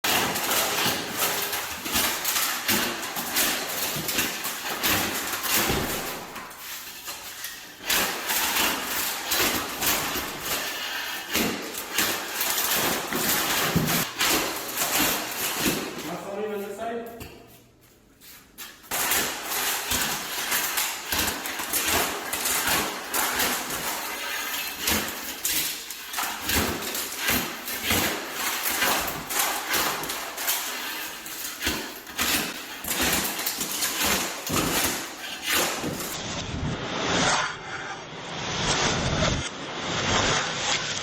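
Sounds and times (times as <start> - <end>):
tile scraping: 0.0 - 16.2, 18.2 - 36.2.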